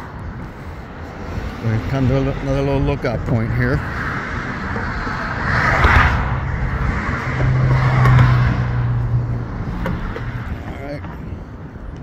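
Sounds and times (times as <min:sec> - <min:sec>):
cars passing: 0:00.0 - 0:12.0
low engine hum: 0:00.0 - 0:12.0.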